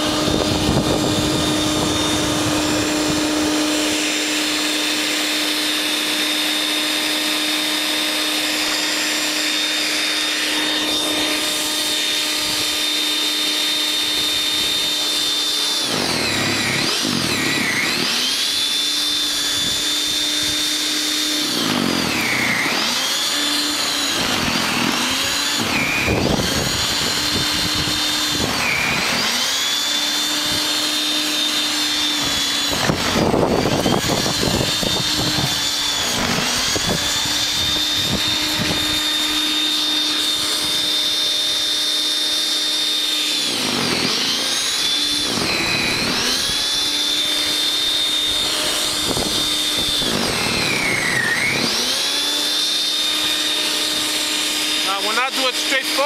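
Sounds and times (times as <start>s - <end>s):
snow thrower motor whining: 0.0s - 56.0s.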